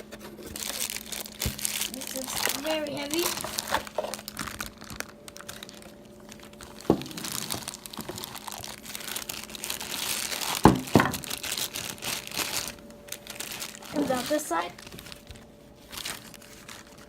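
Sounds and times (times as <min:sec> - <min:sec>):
cardboard packaging crinkling: 0:00.0 - 0:17.0.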